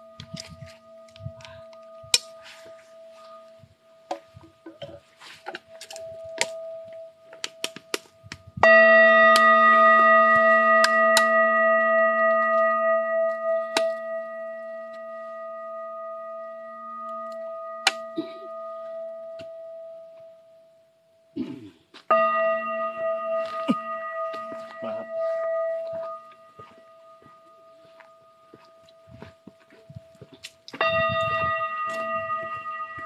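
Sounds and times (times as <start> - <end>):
metal singing bowl ringing: 0.0 - 4.4, 5.8 - 7.5, 8.2 - 20.6, 22.1 - 33.0.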